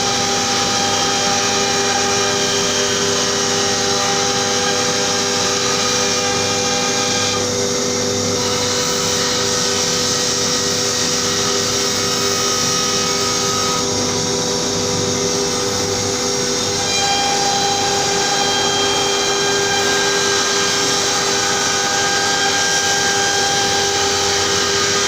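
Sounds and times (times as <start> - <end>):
router spindle cutting plywood: 0.0 - 25.0.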